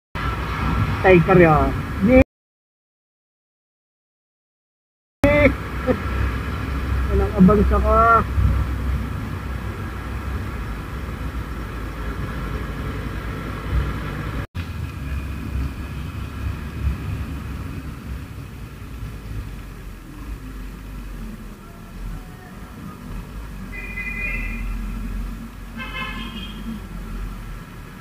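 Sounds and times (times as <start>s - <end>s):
motorcycle engine and road rumble: 5.2s - 28.0s.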